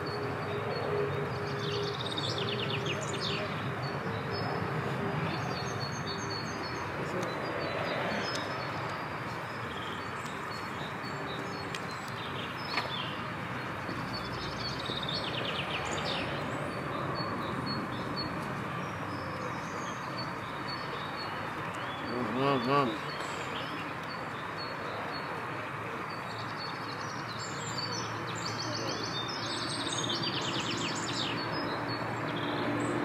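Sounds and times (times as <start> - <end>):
background murmur: 0.0 - 30.9
birds chirping: 0.0 - 33.0.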